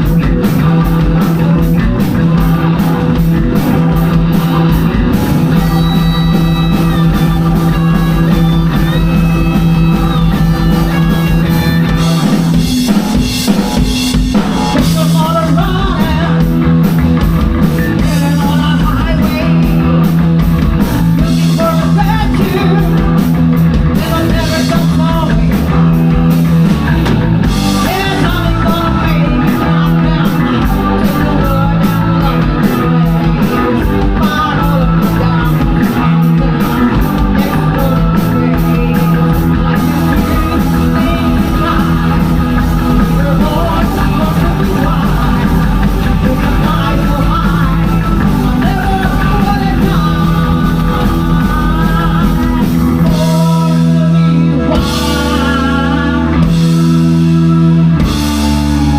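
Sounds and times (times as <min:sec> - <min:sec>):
live rock band with vocals: 0:00.0 - 0:58.9.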